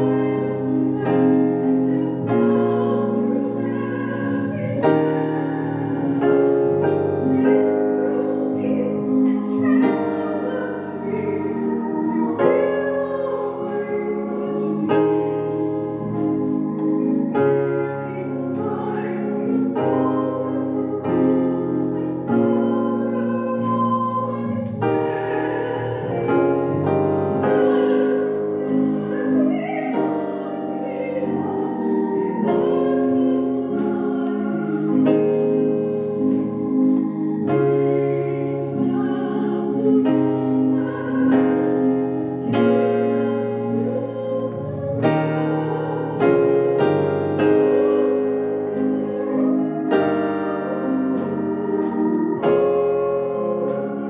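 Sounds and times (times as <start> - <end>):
electronic keyboard piano chords: 0.0 - 54.0.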